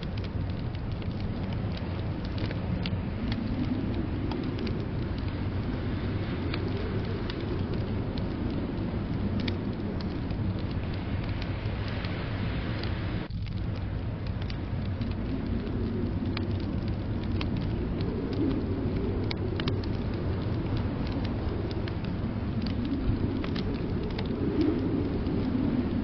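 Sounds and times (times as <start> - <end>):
blizzard wind rumble: 0.0 - 26.0
wood fire crackling: 0.0 - 26.0.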